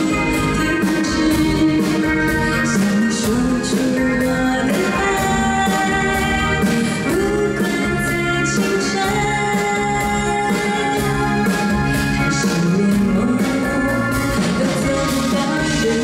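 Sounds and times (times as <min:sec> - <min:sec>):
band playing steady beat: 0:00.0 - 0:16.0
woman singing into microphone: 0:00.0 - 0:16.0.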